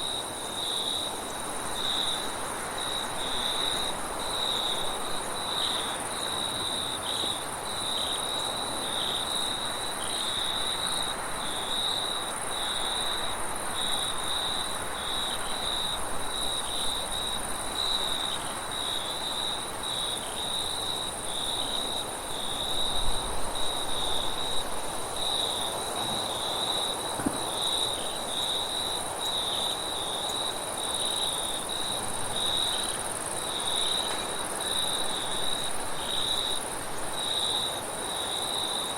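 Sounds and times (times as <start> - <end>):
crickets chirping: 0.0 - 38.9
insect hiss: 0.0 - 38.9.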